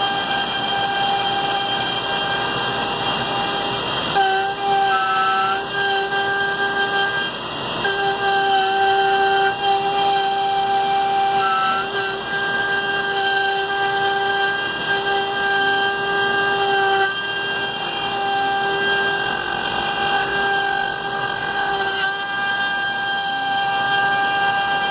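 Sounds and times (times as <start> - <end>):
stepper motors whining: 0.0 - 24.9.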